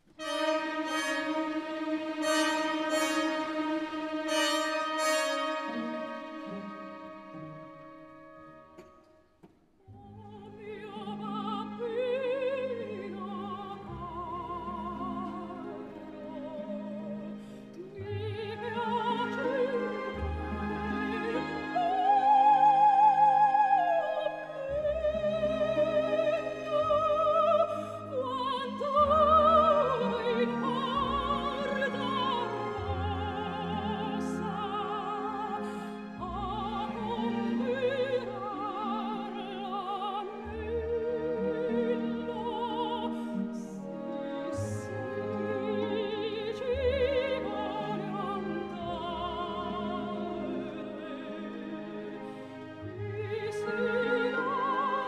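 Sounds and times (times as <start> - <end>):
operatic singing with orchestra: 0.0 - 8.2, 9.9 - 55.0.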